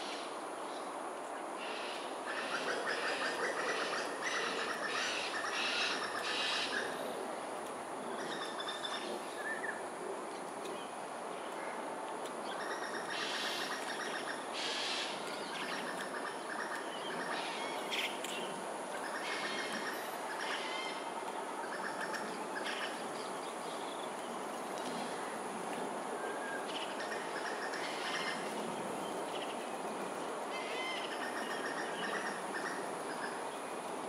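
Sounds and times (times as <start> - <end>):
steady high hiss: 0.0 - 34.0.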